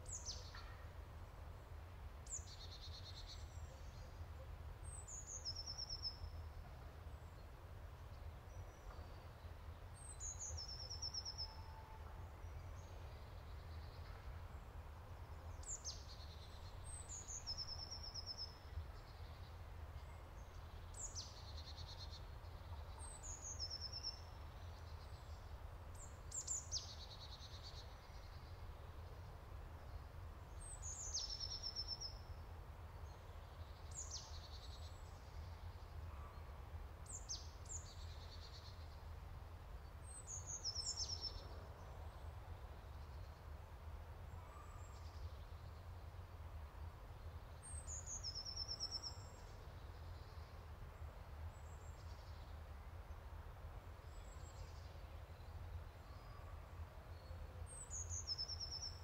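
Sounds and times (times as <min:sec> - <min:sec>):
songbirds singing: 0:00.0 - 0:46.2, 0:46.8 - 0:53.3, 0:53.9 - 0:59.0.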